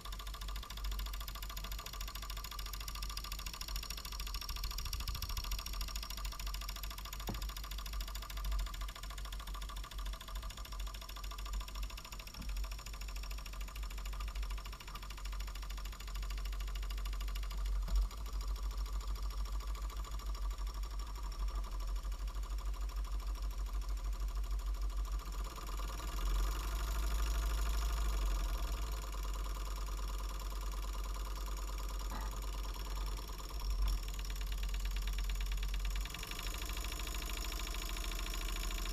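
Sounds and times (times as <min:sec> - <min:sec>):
model steam engine running: 0:00.0 - 0:38.9.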